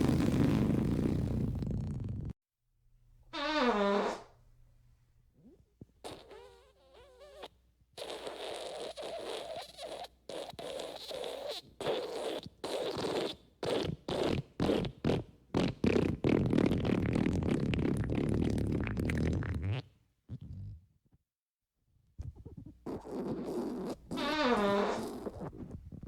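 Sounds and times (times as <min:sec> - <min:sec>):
long raspy sputtering fart: 0:00.0 - 0:02.3, 0:03.4 - 0:04.3, 0:06.0 - 0:20.8, 0:22.2 - 0:26.0
squeaky fart: 0:00.0 - 0:02.3, 0:03.3 - 0:04.4, 0:05.4 - 0:20.9, 0:22.2 - 0:26.0.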